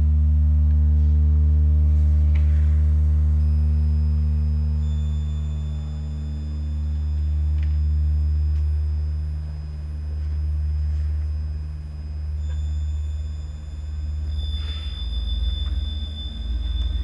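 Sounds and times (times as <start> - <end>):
deep electronic drone: 0.0 - 17.0
faint high steady tones: 2.5 - 17.0.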